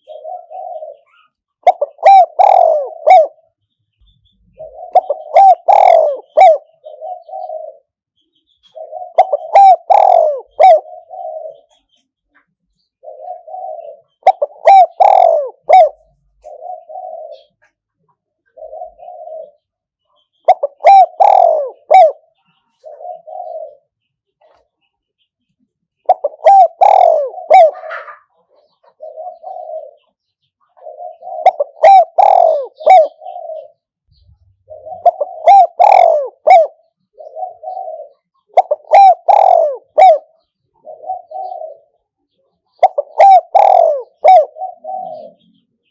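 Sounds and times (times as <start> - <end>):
dove cooing: 0.0 - 3.6, 4.3 - 8.0, 8.6 - 12.0, 12.8 - 24.7, 26.0 - 45.9.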